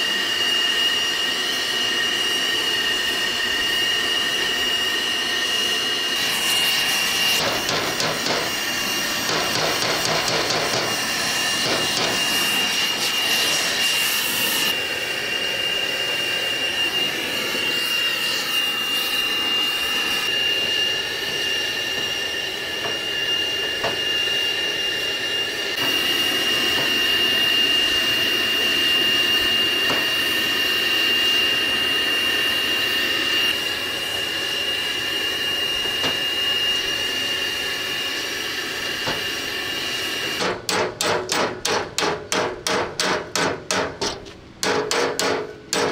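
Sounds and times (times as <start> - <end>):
gas torch hissing roar: 0.0 - 41.8.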